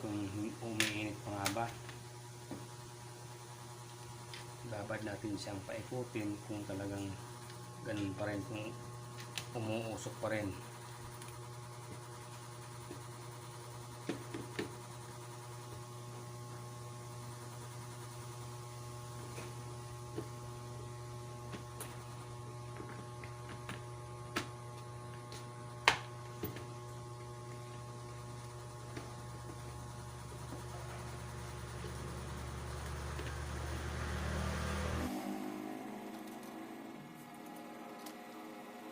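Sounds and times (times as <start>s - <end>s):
low electric hum: 0.0s - 38.9s.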